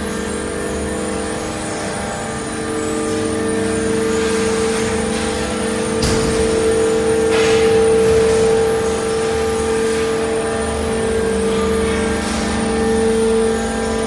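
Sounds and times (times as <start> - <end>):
shredding machine hum and whine: 0.0 - 14.0.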